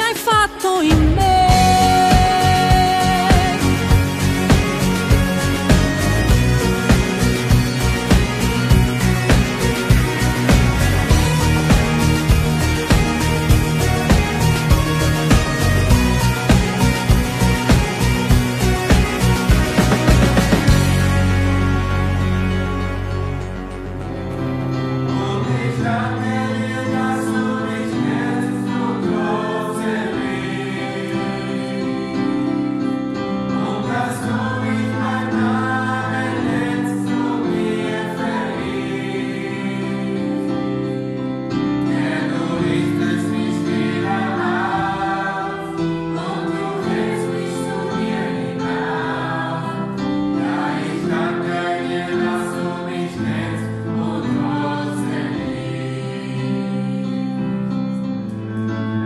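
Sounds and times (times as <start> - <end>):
choir singing a hymn: 0.5 - 23.4, 24.4 - 58.3.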